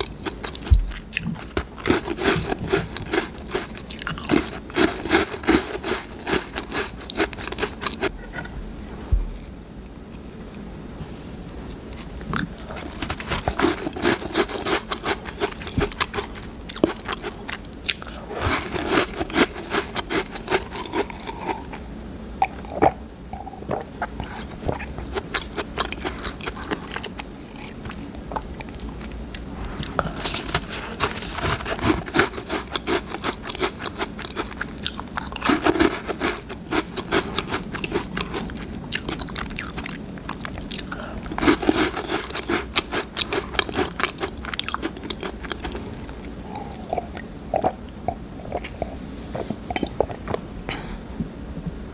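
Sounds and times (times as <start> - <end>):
crunchy chewing of cookies: 0.0 - 9.5, 11.5 - 51.0.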